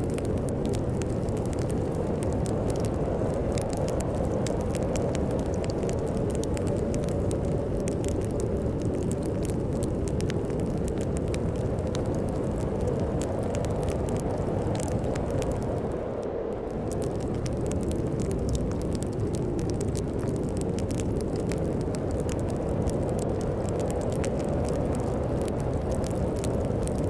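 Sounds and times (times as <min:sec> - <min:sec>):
storm wind rumble: 0:00.0 - 0:27.0
wood fire crackling and popping: 0:00.0 - 0:27.0.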